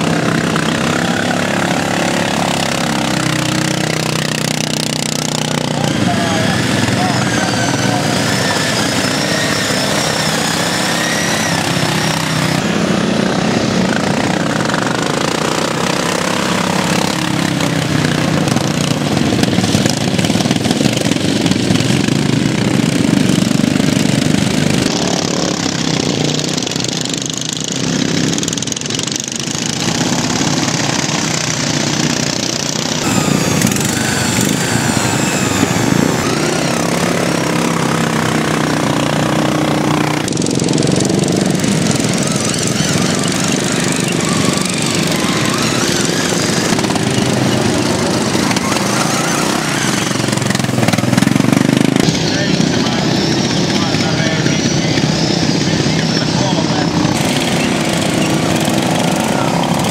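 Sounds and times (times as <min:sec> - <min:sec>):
racing lawn mower engines: 0:00.0 - 0:59.9.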